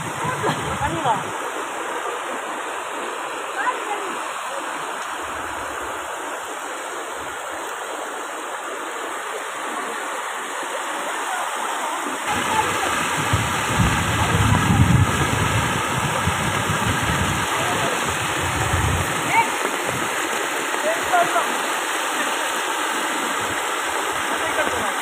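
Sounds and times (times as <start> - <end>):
floodwater rushing and churning: 0.0 - 25.0.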